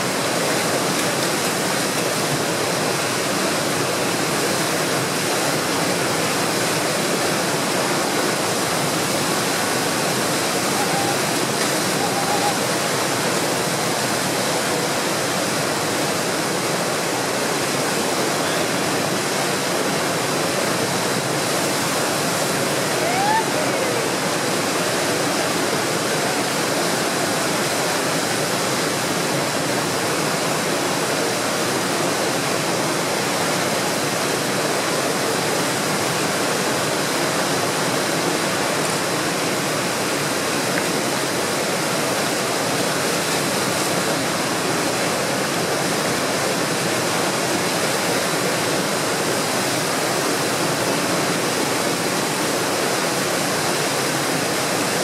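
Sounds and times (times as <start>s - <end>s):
water rushing in rapids: 0.0s - 55.0s.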